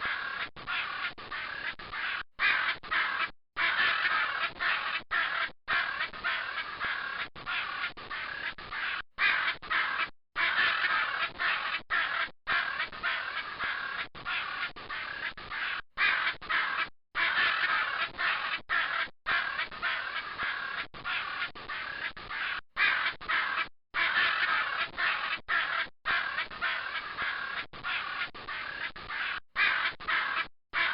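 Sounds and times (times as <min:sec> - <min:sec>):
macaws squawking: 0:00.0 - 0:30.9.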